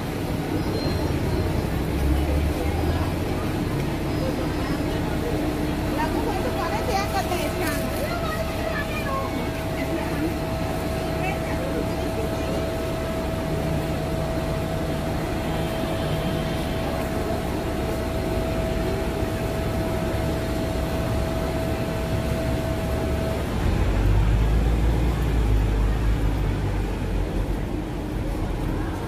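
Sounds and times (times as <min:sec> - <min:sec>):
low engine rumble: 0:00.0 - 0:29.0
street traffic hum: 0:00.0 - 0:29.0.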